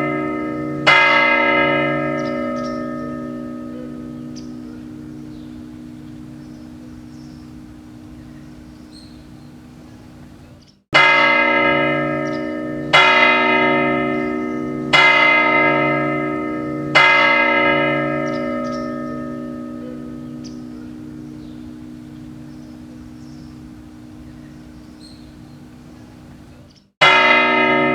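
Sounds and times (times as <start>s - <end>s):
tower clock bell striking: 0.0s - 9.6s, 10.9s - 25.7s, 27.0s - 27.9s.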